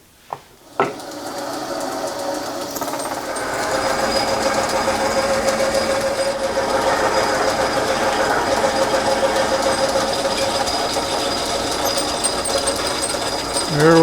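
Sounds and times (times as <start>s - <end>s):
metal lathe whirring: 0.6s - 14.0s.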